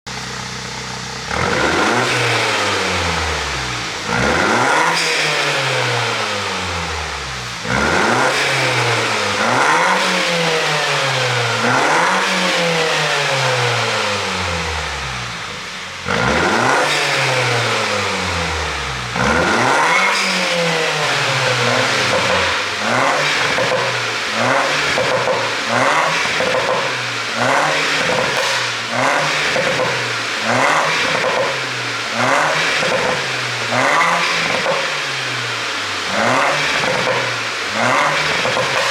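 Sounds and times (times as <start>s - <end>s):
car engine revving: 0.1s - 38.9s.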